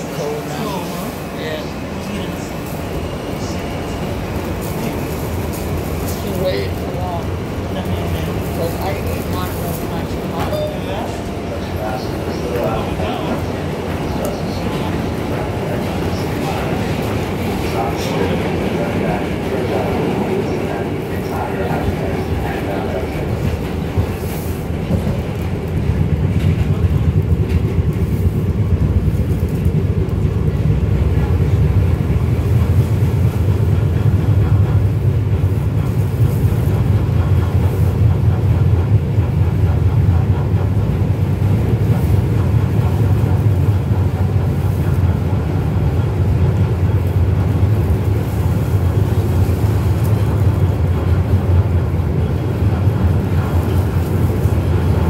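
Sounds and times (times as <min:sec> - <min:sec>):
subway car rumbling: 0:00.0 - 0:55.0.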